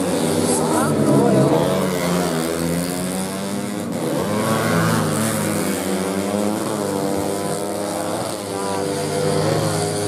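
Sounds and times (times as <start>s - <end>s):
race motorcycles at high revs: 0.0s - 10.0s.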